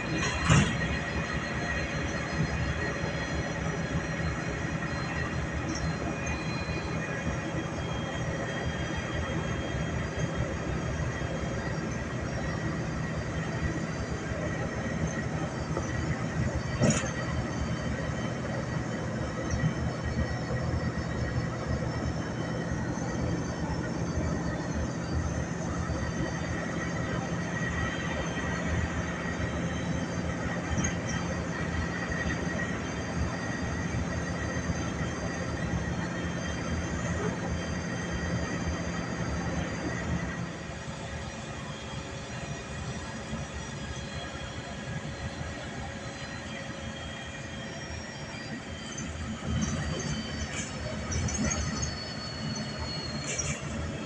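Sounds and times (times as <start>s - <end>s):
bus engine and road noise: 0.0s - 54.0s.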